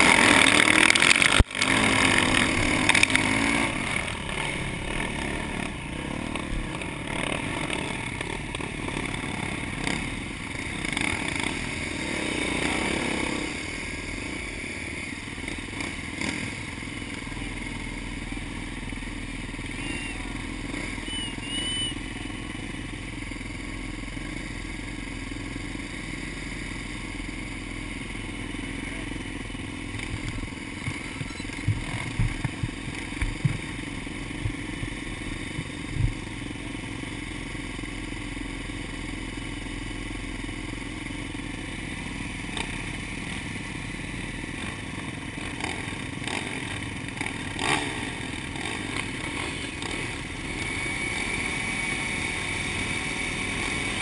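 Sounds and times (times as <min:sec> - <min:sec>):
dirt bike engines idling: 0:00.0 - 0:54.0.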